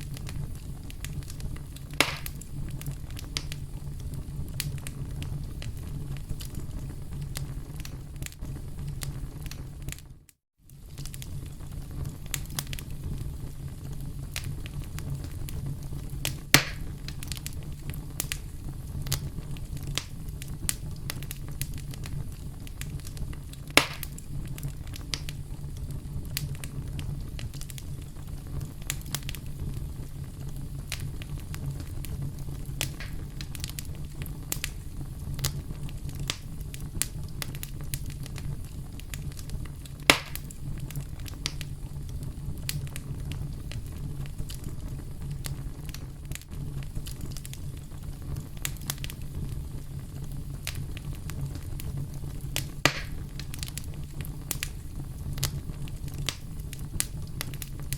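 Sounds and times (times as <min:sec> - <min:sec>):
loud sharp fire pops: 0:00.0 - 0:10.1, 0:10.7 - 0:57.9
campfire crackling: 0:00.0 - 0:57.9
low rumble of flames: 0:00.0 - 0:57.9.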